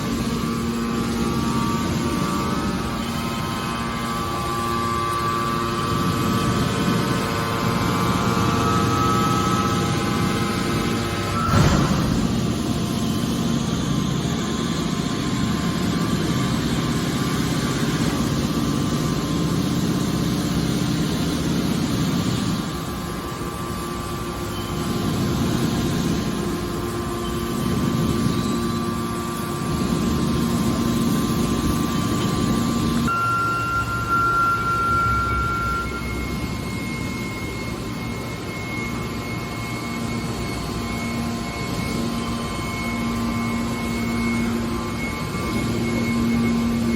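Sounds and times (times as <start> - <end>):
hydraulic machine running: 0.0 - 46.9
thin high whine: 0.0 - 46.9.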